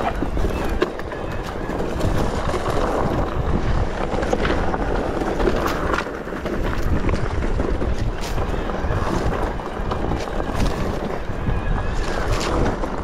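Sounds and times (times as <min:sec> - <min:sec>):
bike rattling clicks and knocks: 0:00.0 - 0:13.0
bike tyres running over ground: 0:00.0 - 0:13.0
wind rushing over microphone: 0:00.0 - 0:13.0.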